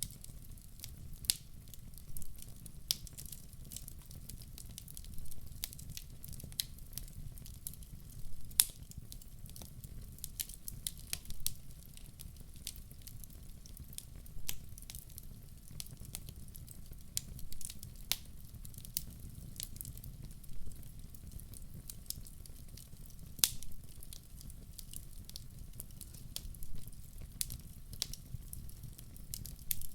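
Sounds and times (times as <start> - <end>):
fire low rumble: 0.0 - 29.9
wood fire crackling and popping: 0.0 - 29.9.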